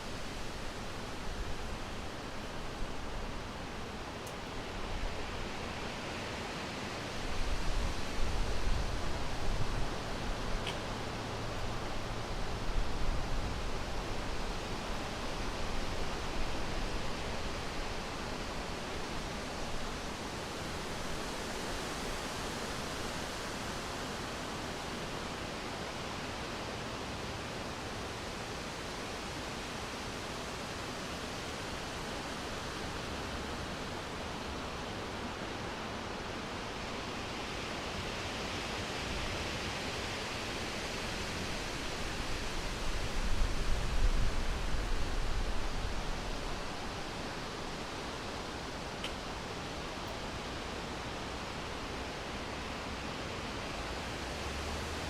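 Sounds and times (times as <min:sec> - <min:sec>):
wind rustling leaves: 0:00.0 - 0:55.0.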